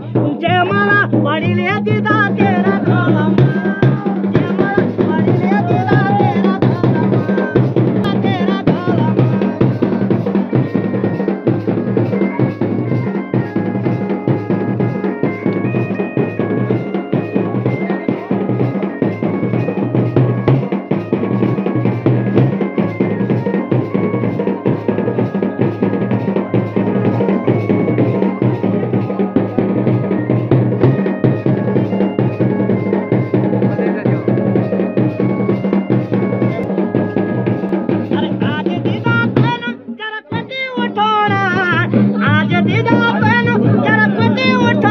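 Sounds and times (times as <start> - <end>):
drums beating dance rhythm: 0.0 - 44.9
melody instrument holding notes: 1.8 - 39.5.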